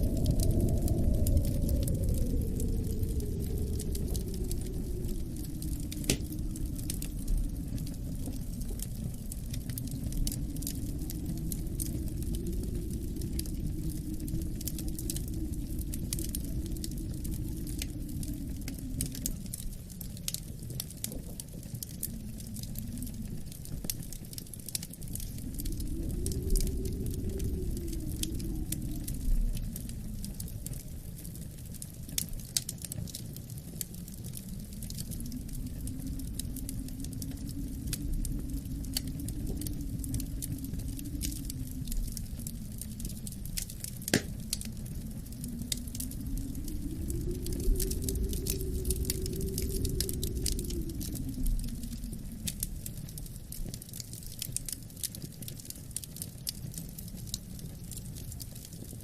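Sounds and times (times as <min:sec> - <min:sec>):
low rumble of wind: 0:00.0 - 0:59.0
wood fire crackling and popping: 0:00.0 - 0:59.0.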